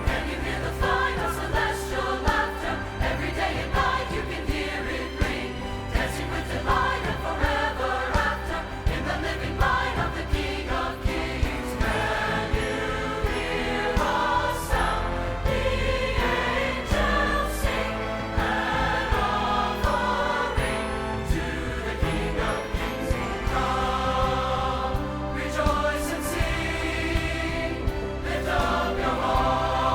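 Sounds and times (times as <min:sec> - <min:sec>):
choir singing: 0:00.0 - 0:29.9
percussion hits: 0:00.0 - 0:29.9
steady bass: 0:00.0 - 0:29.9.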